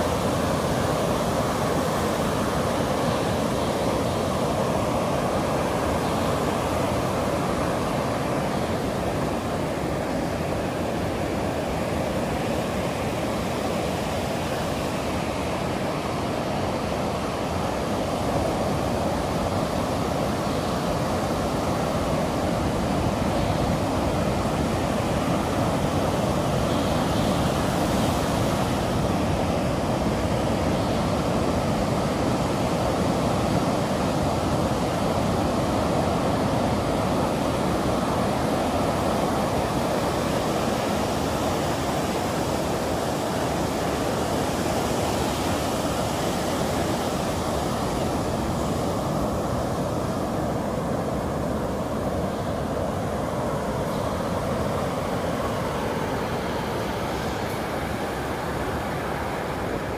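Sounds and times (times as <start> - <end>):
surf breaking on a beach: 0.0 - 59.9.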